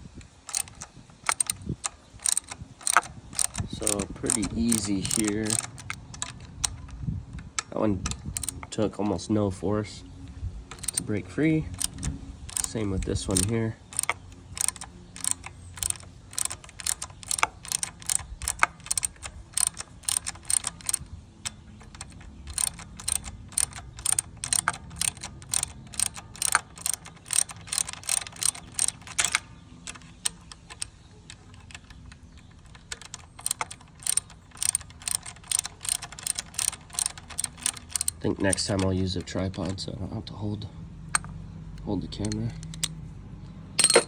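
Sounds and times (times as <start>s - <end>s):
socket ratchet clicking: 0.0s - 9.4s, 10.2s - 40.0s, 41.0s - 44.0s.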